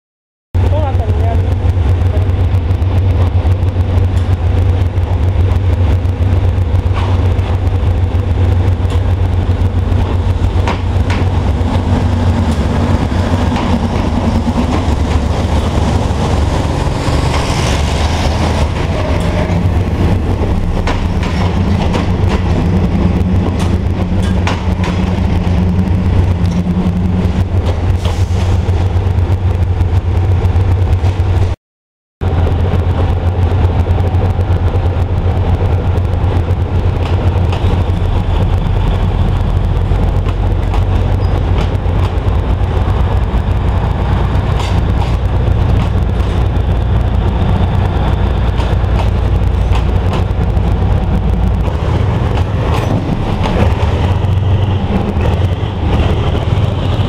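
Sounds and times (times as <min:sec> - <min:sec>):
diesel train engines rumbling: 0:00.6 - 0:31.6, 0:32.2 - 0:57.0.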